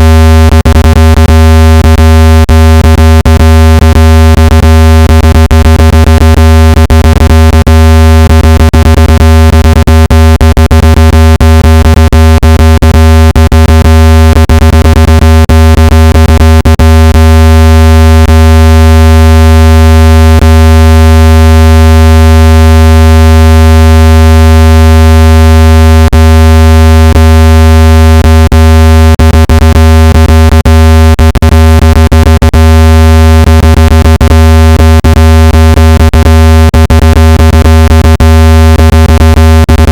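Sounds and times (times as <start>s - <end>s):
loud buzzy low tone: 0.0s - 39.9s.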